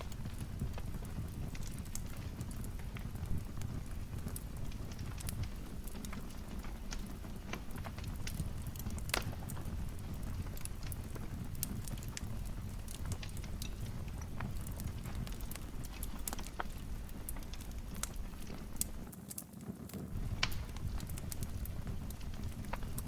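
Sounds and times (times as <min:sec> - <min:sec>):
fireplace fire crackling: 0:00.0 - 0:23.0
low fire rumble: 0:00.0 - 0:23.0.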